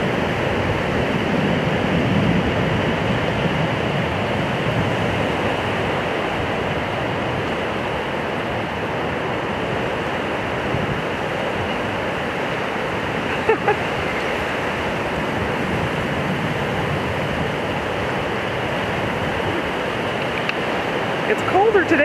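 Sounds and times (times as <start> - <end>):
waves breaking on shore: 0.0 - 22.0
wind buffeting microphone: 0.0 - 22.0.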